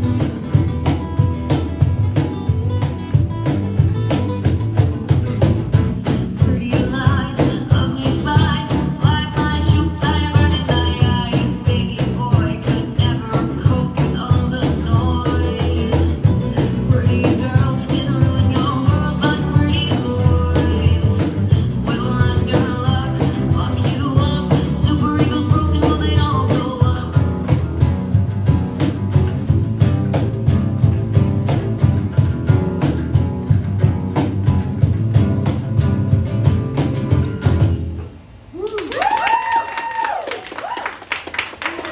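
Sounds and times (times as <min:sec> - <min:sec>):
live rock band playing: 0:00.0 - 0:38.5.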